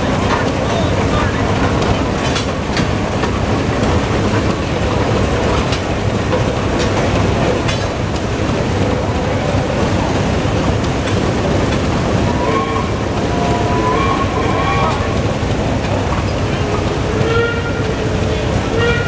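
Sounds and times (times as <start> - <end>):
steam engines rumbling: 0.0 - 19.0.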